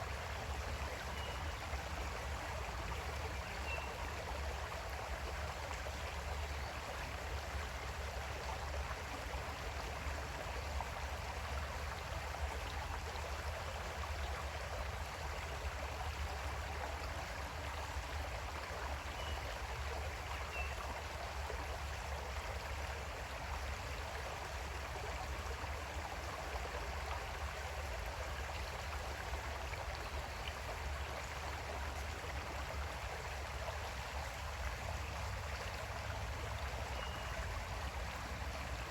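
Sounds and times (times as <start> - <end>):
creek water rushing: 0.0 - 38.9.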